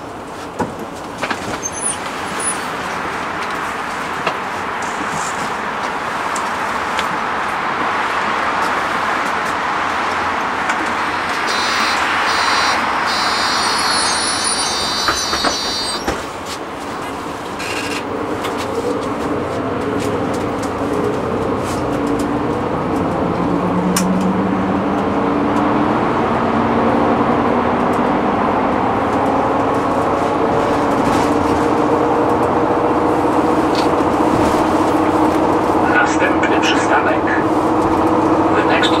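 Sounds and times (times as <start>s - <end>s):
bus engine and drivetrain whine: 0.0s - 39.0s
road noise: 0.0s - 39.0s.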